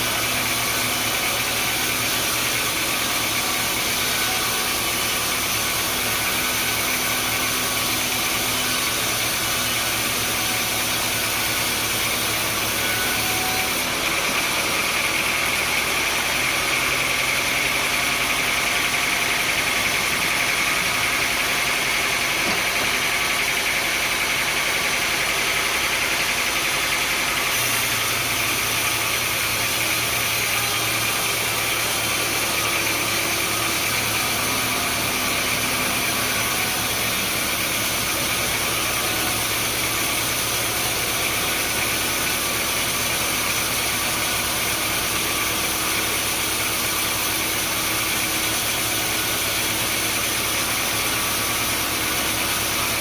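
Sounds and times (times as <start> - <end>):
sawmill machinery hum: 0.0 - 53.0.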